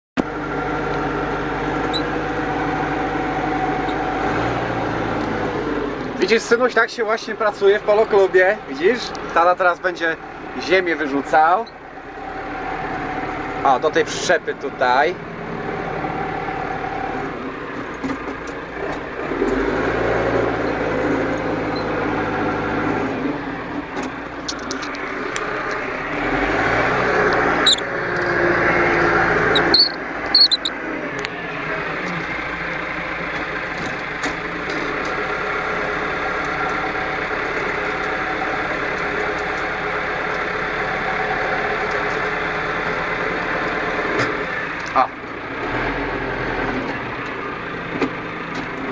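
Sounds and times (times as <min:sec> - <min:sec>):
tractor engine running: 0:00.2 - 0:48.9.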